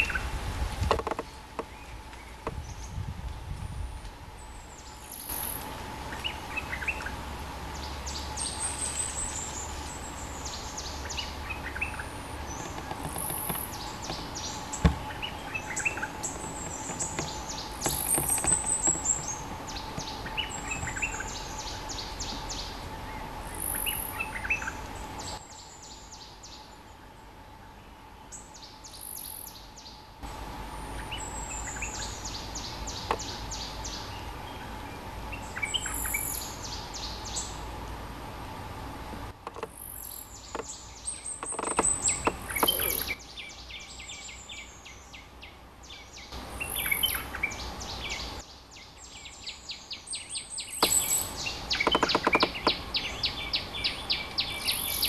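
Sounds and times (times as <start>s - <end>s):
steady faint hum: 0.0s - 55.0s.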